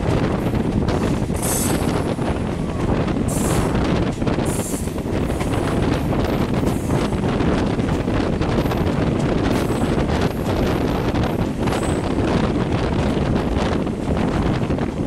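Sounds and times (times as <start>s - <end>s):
train rumble: 0.0s - 15.0s
wind buffeting microphone: 0.0s - 15.0s.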